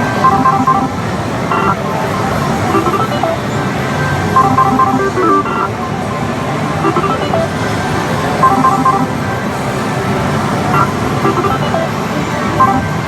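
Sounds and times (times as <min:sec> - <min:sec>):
slot machine electronic beeping tunes: 0:00.0 - 0:09.4, 0:10.5 - 0:13.0.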